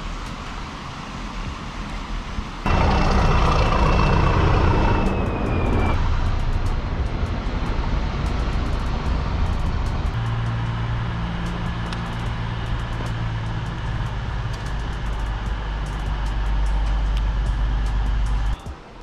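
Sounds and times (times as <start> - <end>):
train rumbling over bridge: 0.0 - 19.0
high whine: 2.7 - 18.8.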